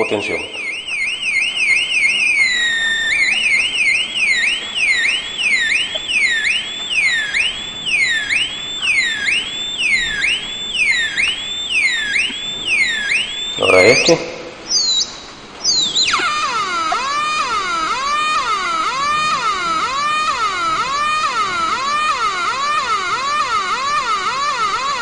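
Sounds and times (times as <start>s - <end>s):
electronic siren-like warbling tone: 0.0s - 25.0s.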